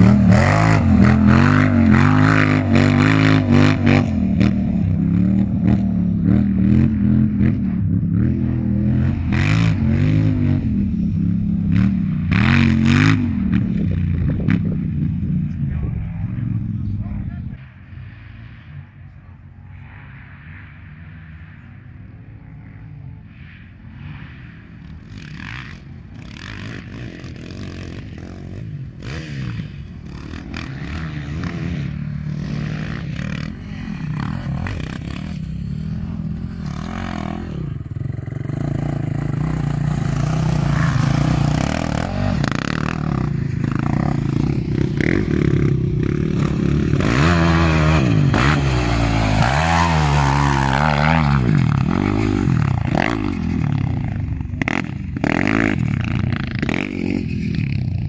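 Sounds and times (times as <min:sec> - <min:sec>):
quad engines running: 0:00.0 - 0:58.0.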